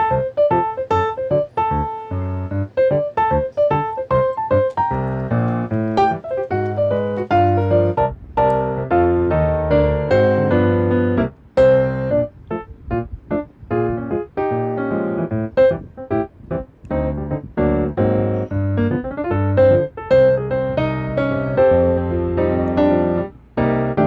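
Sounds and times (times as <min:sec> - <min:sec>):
gentle piano melody with bass: 0:00.0 - 0:24.0.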